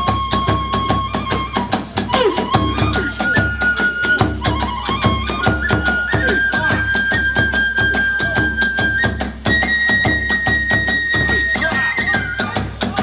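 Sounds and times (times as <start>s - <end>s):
bamboo flute: 0.0s - 13.0s
drum beating: 0.0s - 13.0s.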